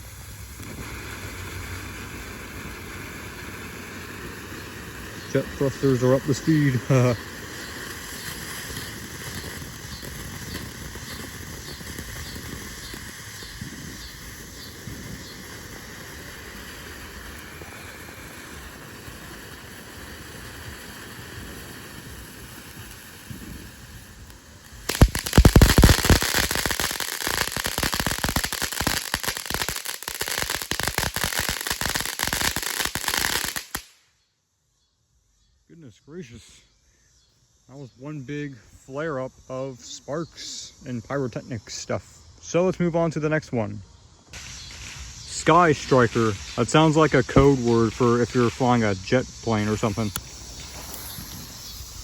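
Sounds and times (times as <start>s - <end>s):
firework sparks hissing: 0.0s - 34.0s, 43.8s - 52.0s
firework crackling: 0.0s - 34.1s, 44.3s - 52.0s.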